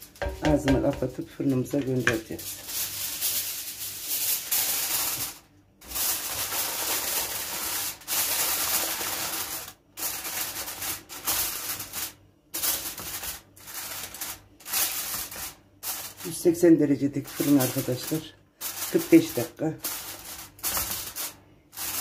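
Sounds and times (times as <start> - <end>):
aluminium foil crinkling: 0.0 - 22.0.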